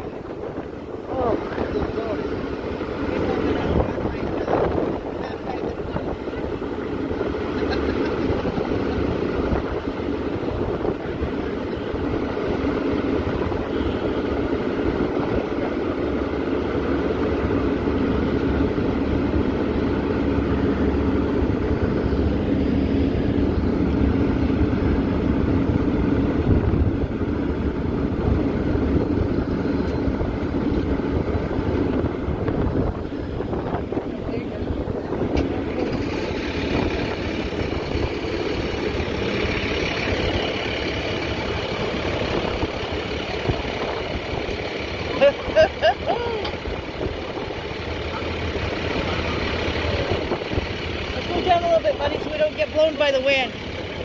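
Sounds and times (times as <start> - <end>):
fire truck diesel engine running: 0.0 - 54.0.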